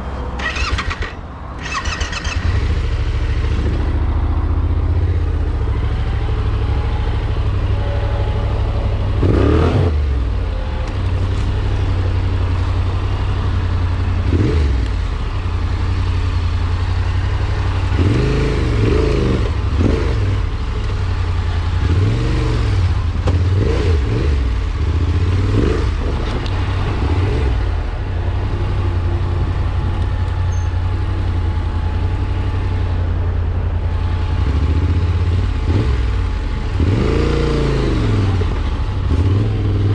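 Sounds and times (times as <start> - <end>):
engine droning and revving: 0.0 - 39.9.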